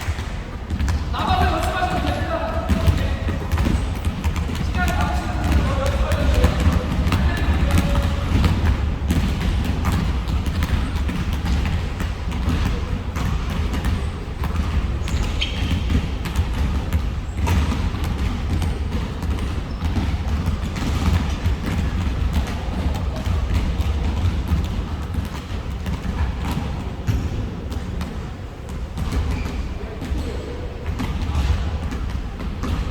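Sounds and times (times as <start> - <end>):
basketballs bouncing on gym floor: 0.0 - 32.9
low rumble of hall: 0.0 - 32.9.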